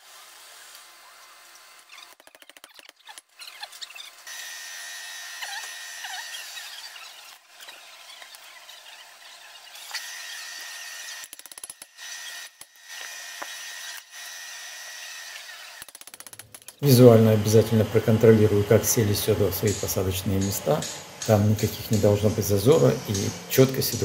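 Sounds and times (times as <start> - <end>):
power tool whirring with whine: 0.0 - 2.2, 3.4 - 15.9, 16.8 - 24.0.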